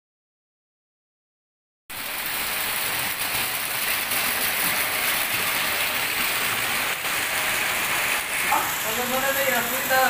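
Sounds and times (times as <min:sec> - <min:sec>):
heavy rain falling: 0:01.9 - 0:10.0.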